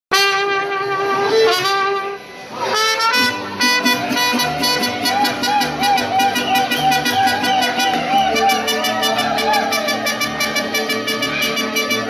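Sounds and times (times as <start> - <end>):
bass and guitar accompaniment: 0.1 - 12.0
trumpet and violin melody: 0.1 - 12.0.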